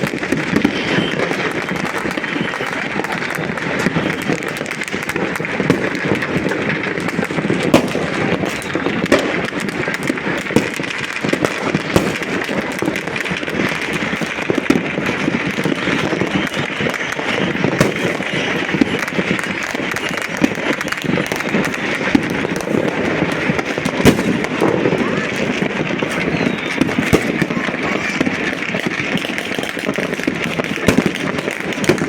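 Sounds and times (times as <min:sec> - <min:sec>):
firecrackers crackling: 0:00.0 - 0:32.0
fireworks bangs: 0:00.0 - 0:32.0.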